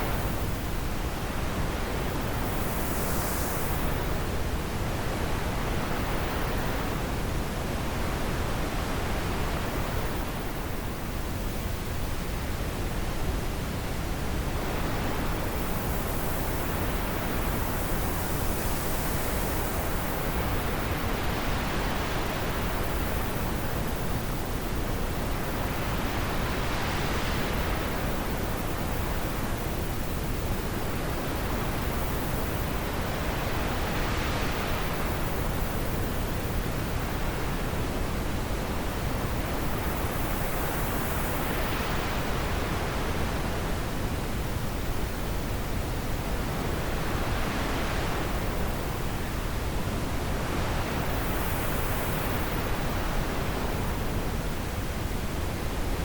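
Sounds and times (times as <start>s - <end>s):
wind blowing in gusts: 0.0s - 56.0s.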